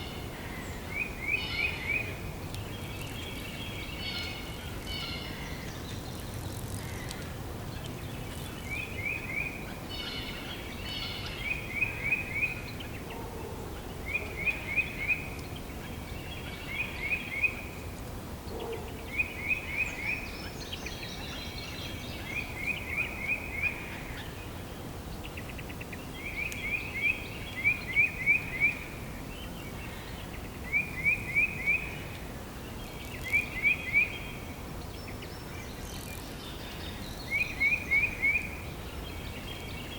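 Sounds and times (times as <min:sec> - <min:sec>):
birds chirping faintly: 0:00.0 - 0:39.9.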